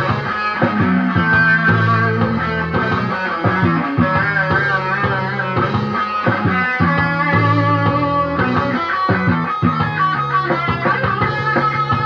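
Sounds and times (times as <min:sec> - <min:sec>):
electric guitar riff: 0:00.0 - 0:12.0.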